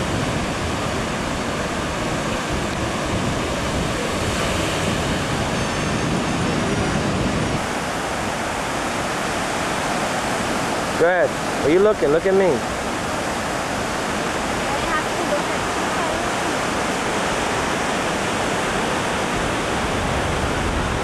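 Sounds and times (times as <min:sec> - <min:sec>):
rough sea surf breaking: 0:00.0 - 0:21.0
wind: 0:00.0 - 0:21.0.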